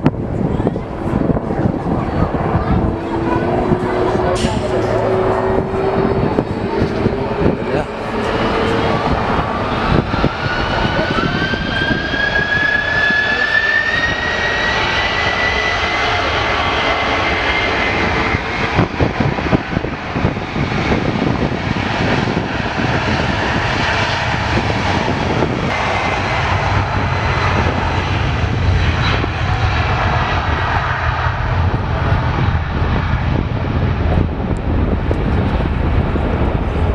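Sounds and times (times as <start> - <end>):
deep rumble: 0.0 - 36.9
jet engine roar with whine: 0.0 - 36.9.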